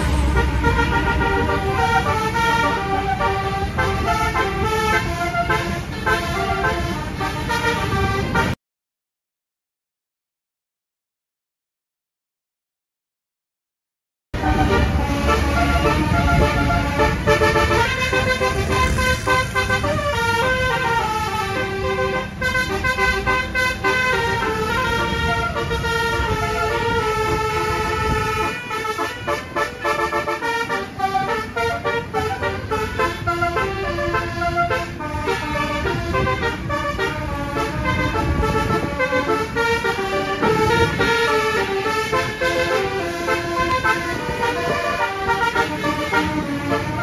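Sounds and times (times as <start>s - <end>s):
low road rumble: 0.0s - 8.6s, 14.4s - 47.0s
multi-tone bus horn melody: 0.0s - 8.6s, 14.4s - 47.0s.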